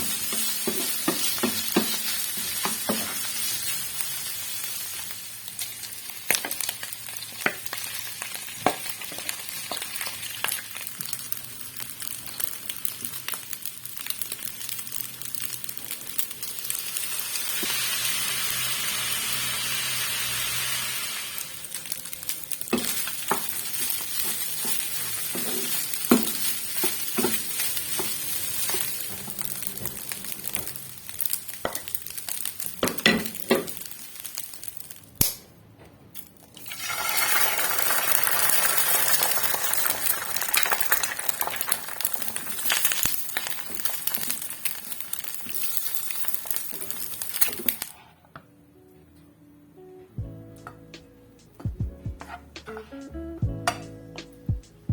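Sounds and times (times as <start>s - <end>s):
food sizzling in a pan: 0.0s - 35.2s, 36.6s - 48.1s.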